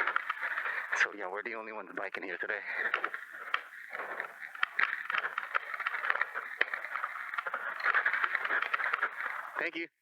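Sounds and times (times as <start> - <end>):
bike rattling and clicking: 0.0 - 1.1, 2.1 - 9.7
tyres crunching on loose ground: 0.0 - 1.1, 2.1 - 9.7.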